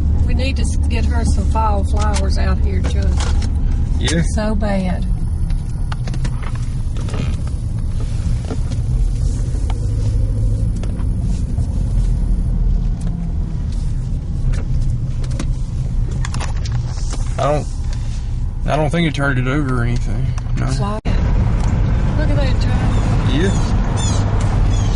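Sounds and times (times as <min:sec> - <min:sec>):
car engine rumble: 0:00.0 - 0:24.9
road noise: 0:00.0 - 0:24.9.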